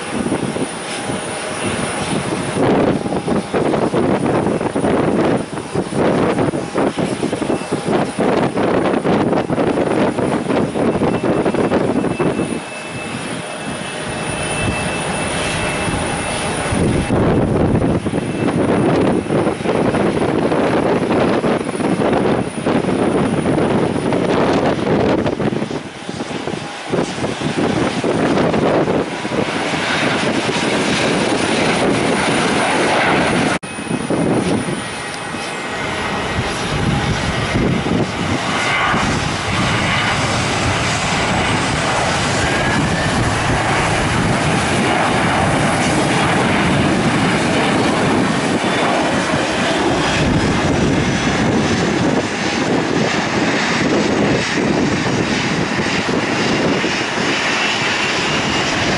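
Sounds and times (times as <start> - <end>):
airplane engines passing: 0.0 - 58.9.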